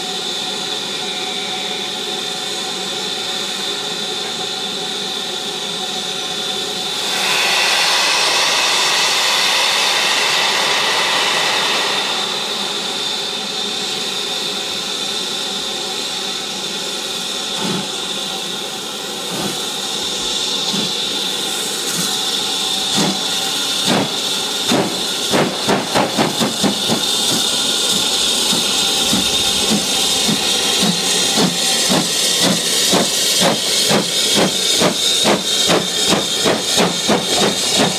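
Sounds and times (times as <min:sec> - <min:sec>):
loud steam hiss: 0:00.0 - 0:37.9
steam locomotive exhaust beats: 0:00.0 - 0:37.9.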